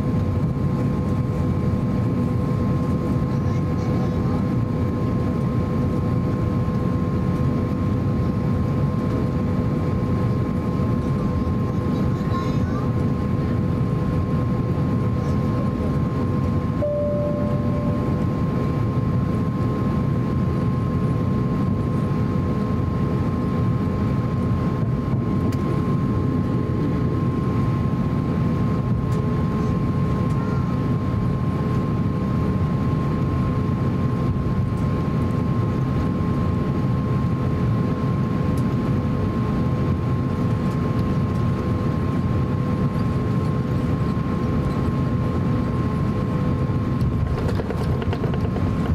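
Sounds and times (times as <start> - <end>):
aircraft cabin rumble: 0.0 - 48.9
steady high engine whine: 0.0 - 48.9.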